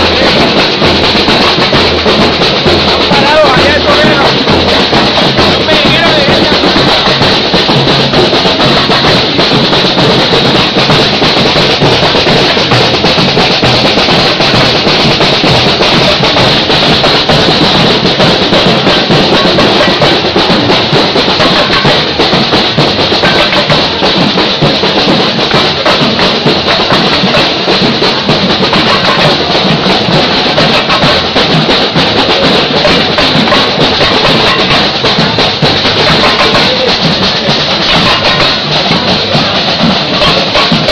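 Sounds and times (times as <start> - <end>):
drum ensemble playing: 0.0 - 40.9.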